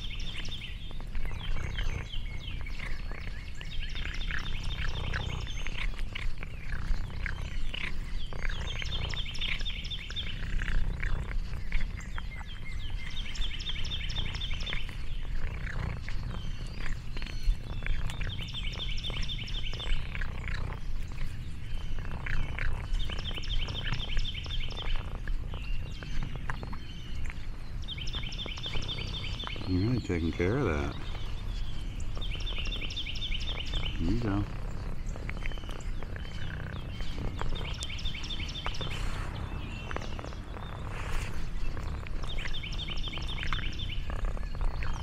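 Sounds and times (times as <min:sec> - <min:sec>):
crackling and rustling: 0:00.0 - 0:45.0.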